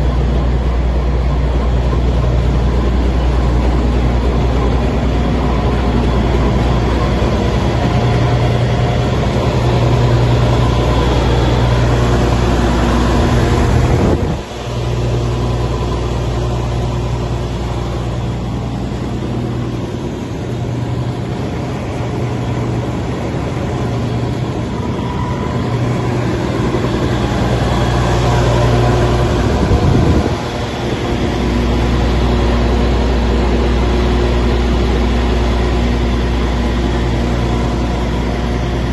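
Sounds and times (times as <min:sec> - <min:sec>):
crusher diesel engine and machinery: 0:00.0 - 0:38.9.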